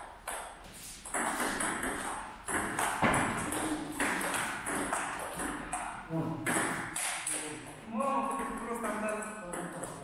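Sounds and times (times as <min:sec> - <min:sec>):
table tennis ball hits: 0:00.2 - 0:10.0.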